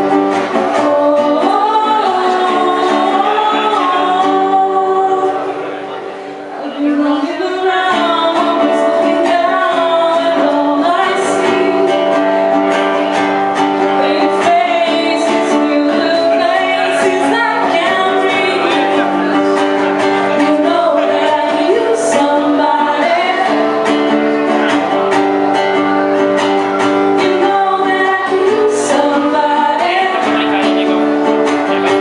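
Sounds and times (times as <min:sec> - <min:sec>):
person singing: 0:00.0 - 0:32.0
strummed guitar chords: 0:00.0 - 0:32.0.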